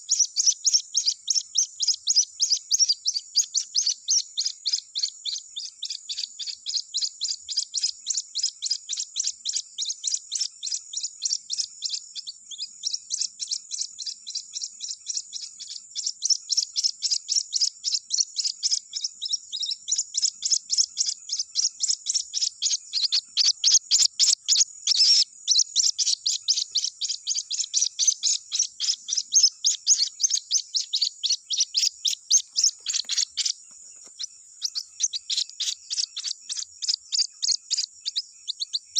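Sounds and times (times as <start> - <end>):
bird chick peeping: 0.0 - 38.9.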